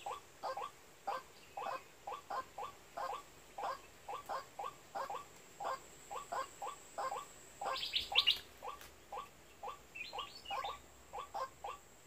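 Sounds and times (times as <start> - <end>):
waterhen calling hoarse notes: 0.0 - 11.9.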